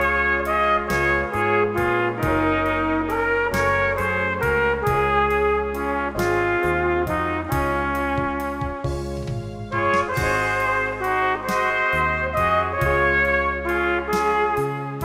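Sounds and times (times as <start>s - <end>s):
bass line: 0.0s - 15.0s
trumpet playing melody: 0.0s - 15.0s.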